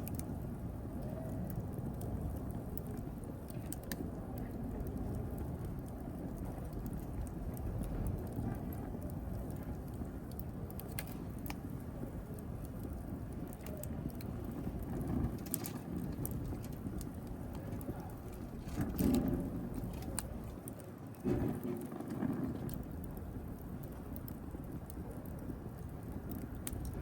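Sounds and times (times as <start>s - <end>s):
burning wood crackling and popping: 0.0s - 27.0s
flames rumbling: 0.0s - 27.0s.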